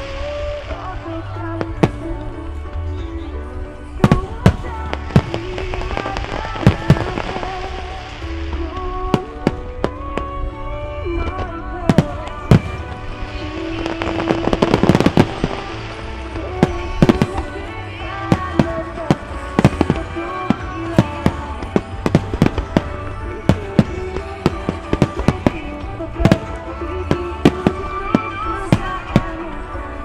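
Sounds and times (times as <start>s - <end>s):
fireworks bangs: 0.0s - 30.0s
fireworks crackling: 0.0s - 30.0s
music from loudspeakers: 0.0s - 30.0s.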